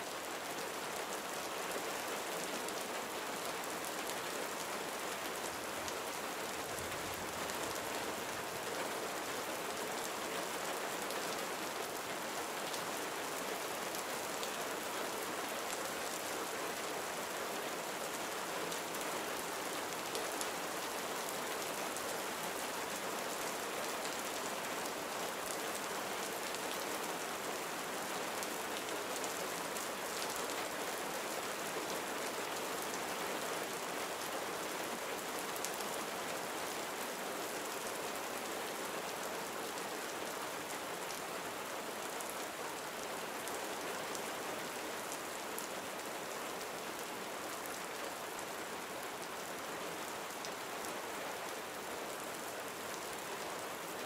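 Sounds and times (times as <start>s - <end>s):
gentle rain patter: 0.0s - 54.0s.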